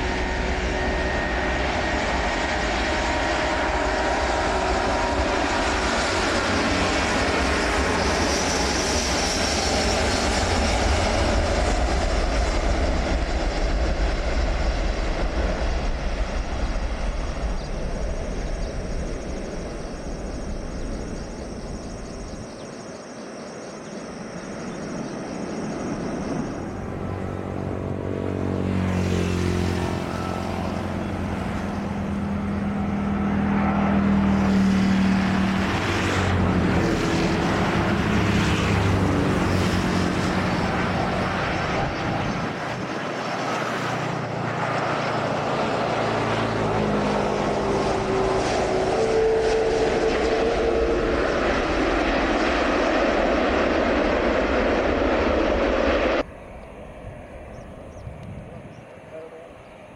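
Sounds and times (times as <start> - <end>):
rushing engine noise: 0.0 - 23.0, 23.8 - 59.9
jet engines running: 0.0 - 59.9.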